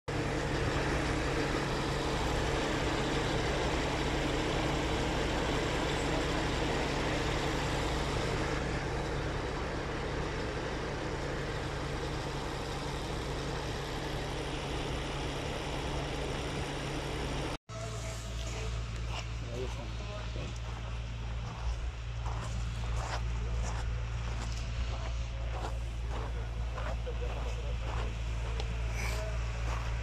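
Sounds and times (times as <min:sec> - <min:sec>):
engine hum: 0:00.1 - 0:30.0.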